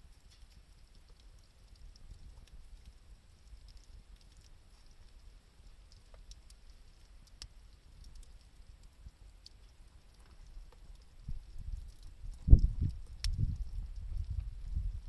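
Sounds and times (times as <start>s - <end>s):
campfire crackling: 0.0s - 15.0s
low steady rumble: 0.0s - 15.0s.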